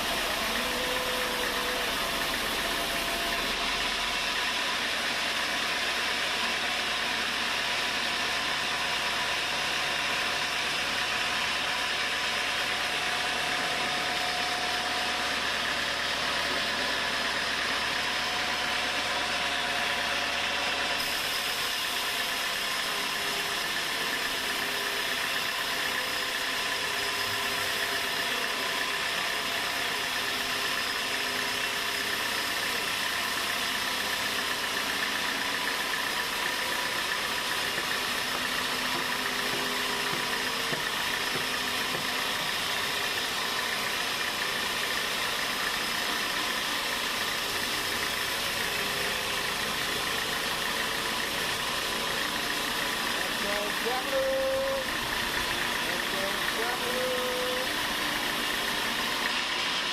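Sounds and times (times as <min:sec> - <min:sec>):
sawmill motor and saw running: 0:00.0 - 0:59.9.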